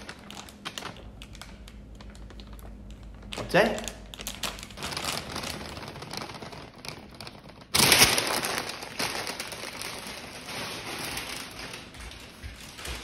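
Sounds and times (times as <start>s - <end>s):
paper bag rustling: 0.0s - 13.0s.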